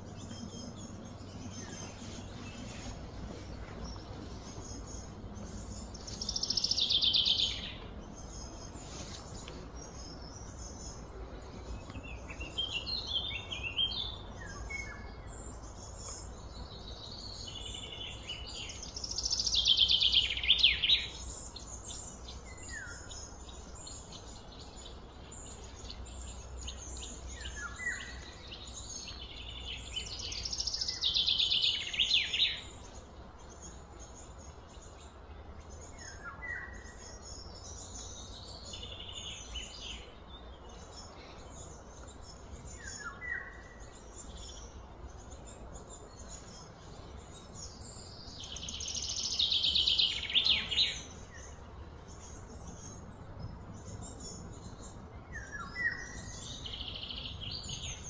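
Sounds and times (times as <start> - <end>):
bird chirps: 0.0 - 58.0
low background noise: 0.0 - 58.0.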